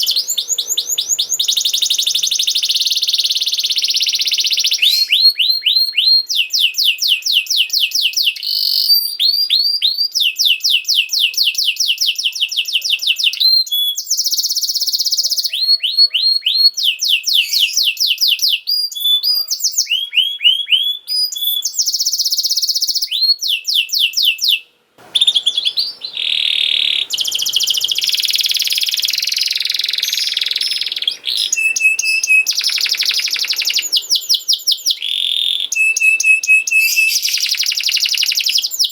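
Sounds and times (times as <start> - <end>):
background hiss: 0.0 - 15.6, 16.8 - 38.9
canary singing trills: 0.0 - 38.9.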